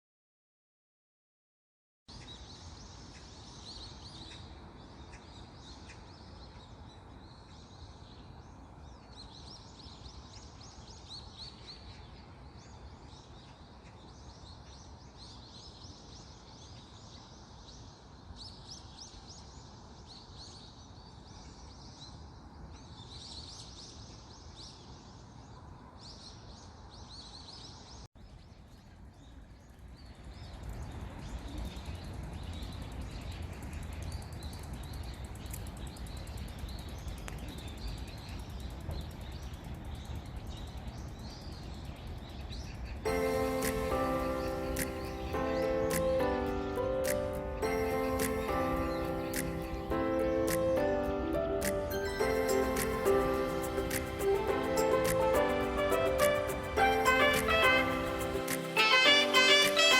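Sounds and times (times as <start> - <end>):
small birds chirping: 2.1 - 59.9.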